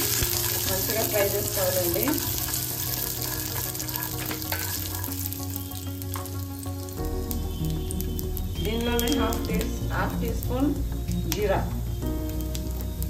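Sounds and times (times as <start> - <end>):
peanuts sizzling in oil: 0.0 - 13.0.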